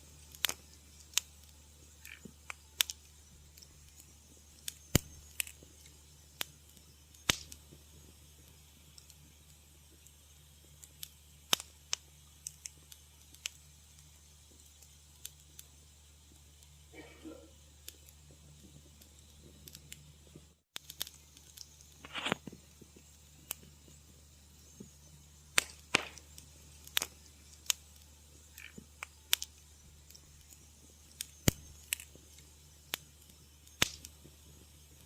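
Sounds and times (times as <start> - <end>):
faint low hum and hiss: 0.0 - 35.0
wood fire crackling: 0.0 - 35.0.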